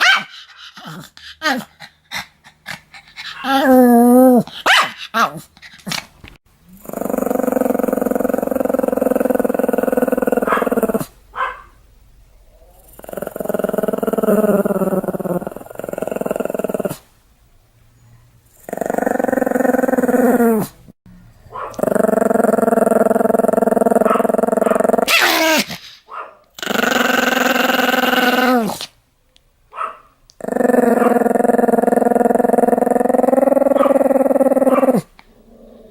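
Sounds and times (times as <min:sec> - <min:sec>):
small dog growling: 0:00.6 - 0:06.1, 0:06.7 - 0:11.2, 0:12.5 - 0:17.1, 0:18.5 - 0:25.9, 0:26.5 - 0:28.9, 0:30.3 - 0:35.9.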